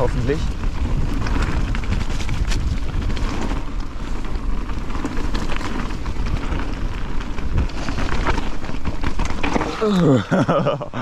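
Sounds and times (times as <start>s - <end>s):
bike clicks and rattles: 0.0s - 11.0s
tyres rolling over stones and leaves: 0.0s - 11.0s
wind noise on microphone: 0.0s - 11.0s.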